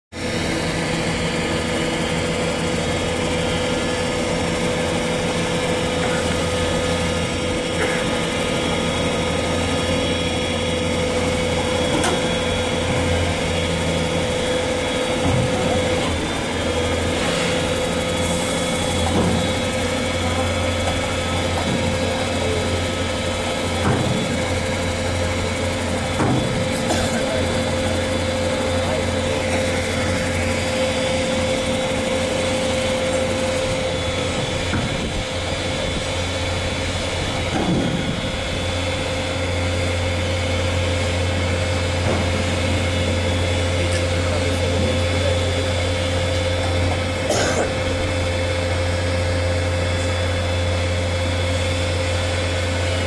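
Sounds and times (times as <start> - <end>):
hydraulic pump motor whining: 0.2 - 53.0.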